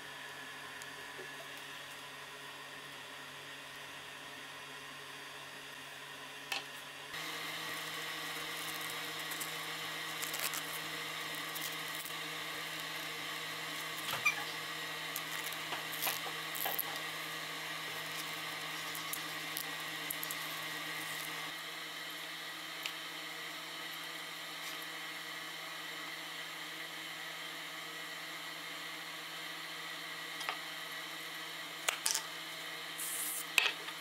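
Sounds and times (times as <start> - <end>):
electrical fan hum: 0.0 - 34.0.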